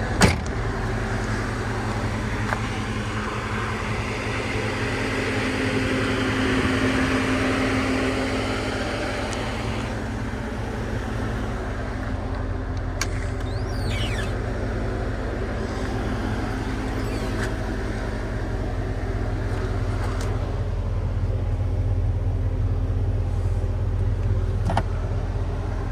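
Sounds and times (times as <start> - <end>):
truck engine idling: 0.0 - 25.9.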